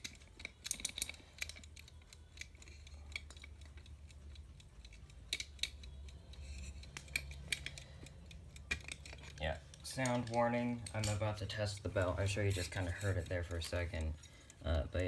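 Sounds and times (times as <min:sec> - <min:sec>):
low steady hum: 0:00.0 - 0:15.0
metallic clicks of clock handled: 0:00.0 - 0:15.0.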